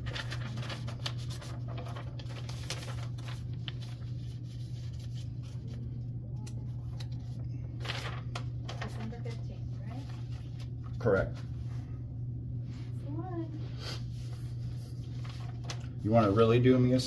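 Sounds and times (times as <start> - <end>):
paper and pen rustling: 0.0 - 11.5, 14.0 - 16.8
steady low hum: 0.0 - 17.0.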